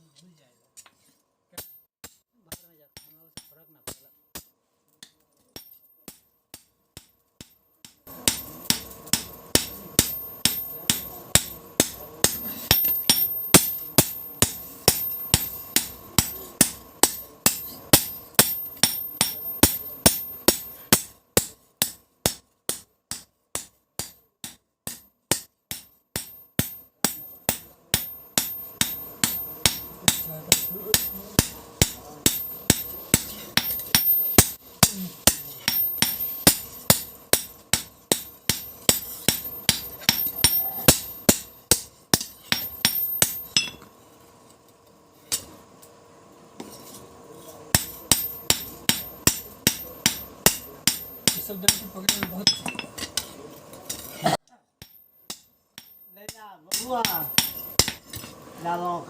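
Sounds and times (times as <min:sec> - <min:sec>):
hammer striking steel on anvil: 0:01.6 - 0:58.4
steady hum: 0:05.6 - 0:59.0.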